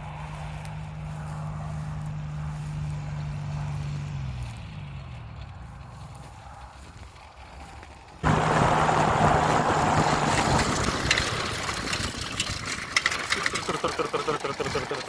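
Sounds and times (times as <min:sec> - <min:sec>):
paramotor engine: 0:00.0 - 0:15.0.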